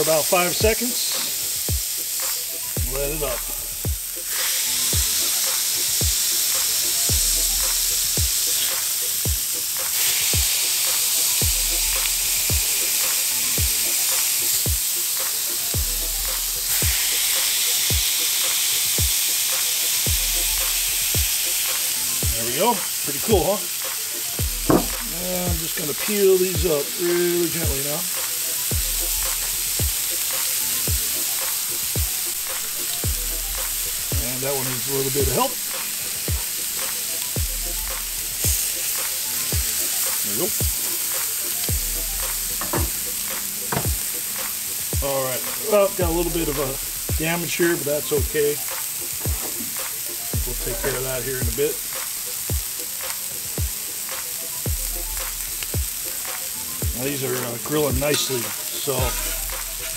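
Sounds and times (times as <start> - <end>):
background music with kick drum: 0.0 - 59.9
patties sizzling on a griddle: 0.0 - 59.9.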